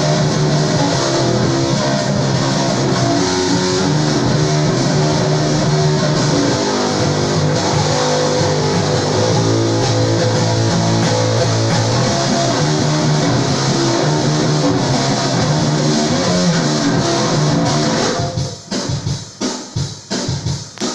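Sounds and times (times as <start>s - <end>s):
band music with electric guitar: 0.0s - 19.0s.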